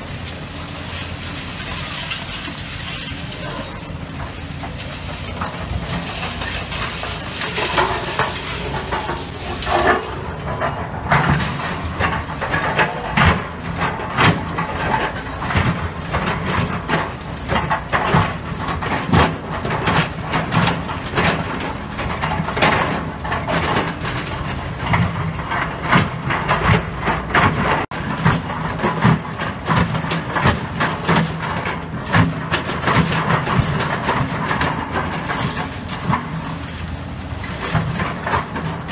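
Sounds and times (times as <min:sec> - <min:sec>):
bucket dragging through rubble: 0:00.0 - 0:38.9
diesel engine running: 0:00.0 - 0:38.9
metal clanks and rattles: 0:00.0 - 0:38.9.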